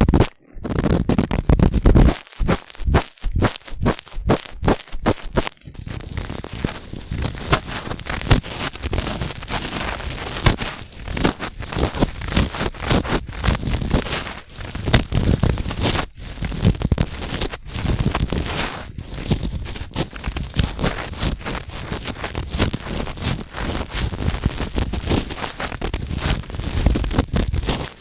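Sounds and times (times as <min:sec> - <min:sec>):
cotton swabs scratching microphone: 0:00.0 - 0:28.0.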